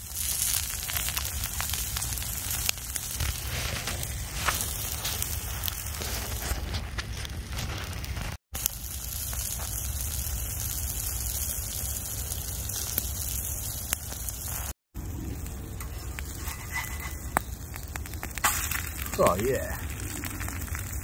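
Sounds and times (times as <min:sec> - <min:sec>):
egg sizzling in pan: 0:00.0 - 0:06.7, 0:07.6 - 0:21.0
small crackles: 0:00.0 - 0:21.0.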